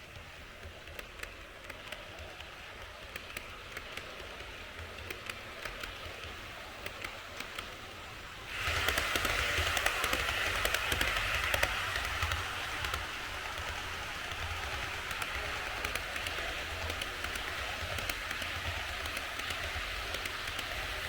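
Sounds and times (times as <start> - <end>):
model train running on track: 0.0 - 21.0.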